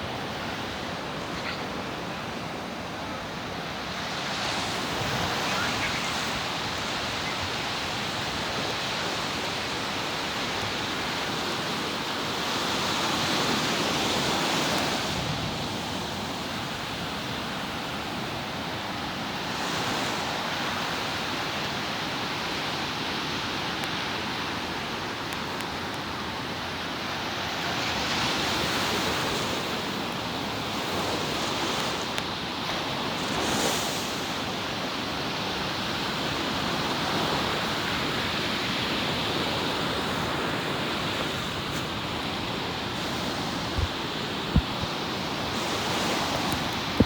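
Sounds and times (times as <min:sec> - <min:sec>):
ocean surf washing ashore: 0:00.0 - 0:47.0.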